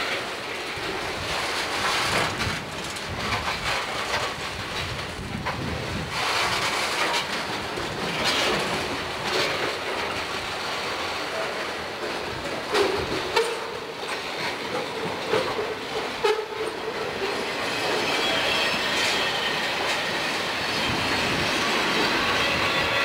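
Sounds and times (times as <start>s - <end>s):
steel wheels rumbling on rail: 0.0s - 23.0s
wheels clacking over rail joints: 0.0s - 23.0s.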